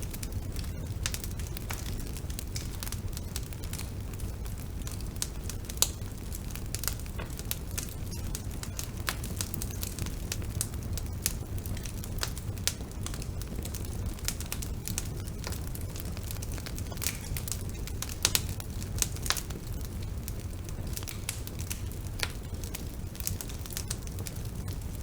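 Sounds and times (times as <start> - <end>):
bonfire crackling and popping: 0.0 - 25.0
low rumble of flames: 0.0 - 25.0.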